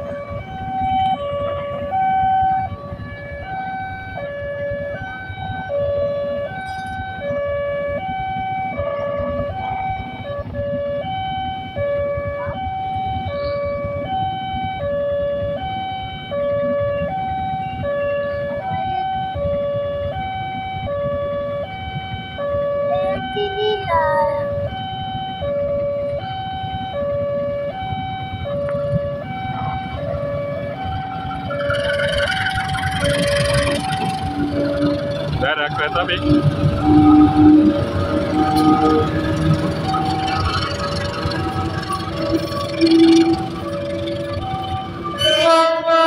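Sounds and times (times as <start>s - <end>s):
level crossing two-tone alarm: 0.0s - 46.0s.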